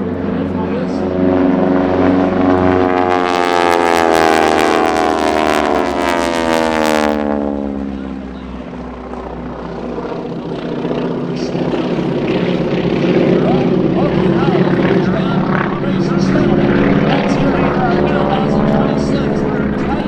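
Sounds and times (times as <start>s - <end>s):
aircraft low pass: 0.0s - 20.0s.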